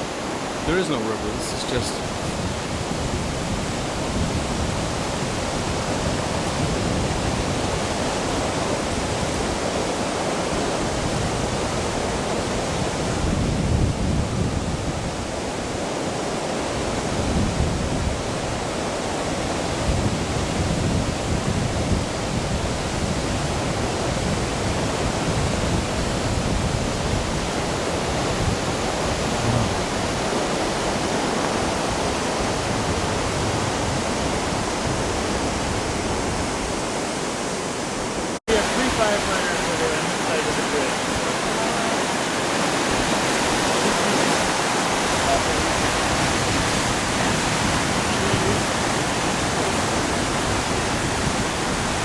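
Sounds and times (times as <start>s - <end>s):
floodwater rushing: 0.0s - 52.0s.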